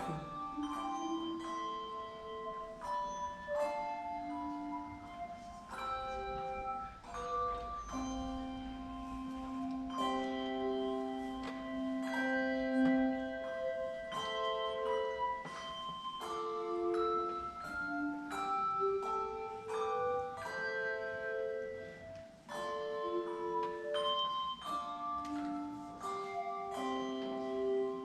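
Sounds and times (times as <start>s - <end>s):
handbells ringing: 0.0s - 28.0s.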